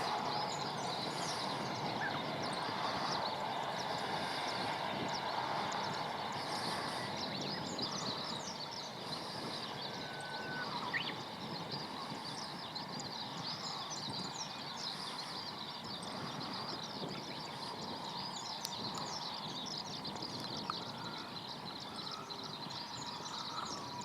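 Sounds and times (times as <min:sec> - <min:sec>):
outdoor background hum: 0:00.0 - 0:24.0
small birds chirping: 0:00.0 - 0:24.0.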